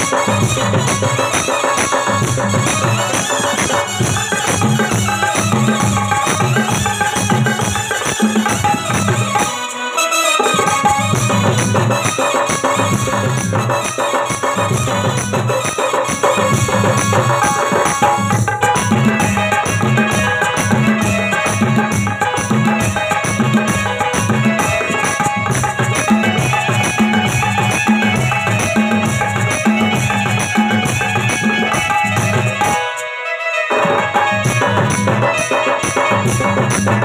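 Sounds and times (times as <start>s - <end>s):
hand drum beat: 0.0s - 9.5s, 10.6s - 32.8s, 34.1s - 37.0s
folk melody instruments: 0.0s - 37.0s.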